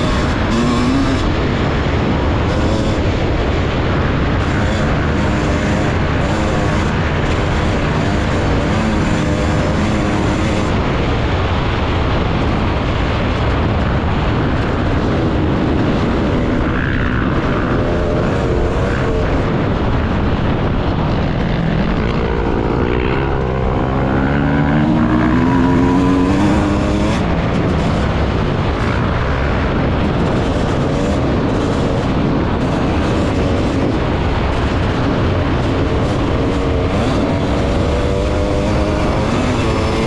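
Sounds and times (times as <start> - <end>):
racing engines revving: 0.0 - 40.0.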